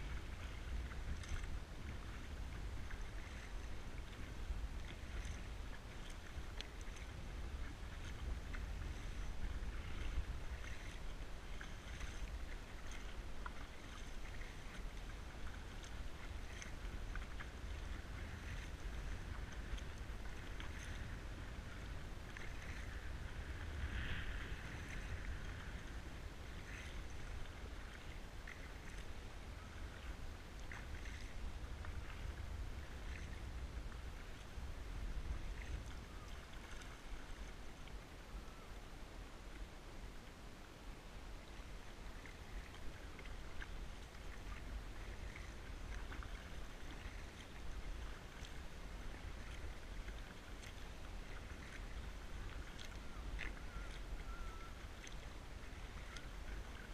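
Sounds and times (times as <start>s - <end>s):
water drips and small splashes: 0.0s - 38.6s, 41.3s - 56.9s
steady low rumble: 0.0s - 54.6s
kayak paddle pulling through water: 0.0s - 56.9s.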